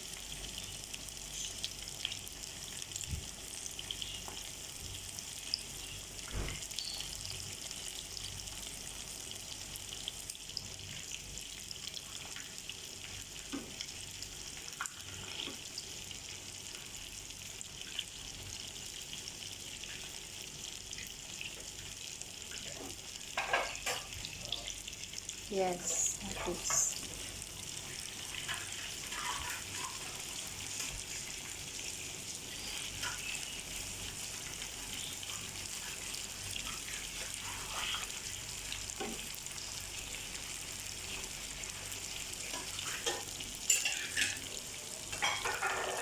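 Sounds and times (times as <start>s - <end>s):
nuggets sizzling in hot oil: 0.0s - 46.0s.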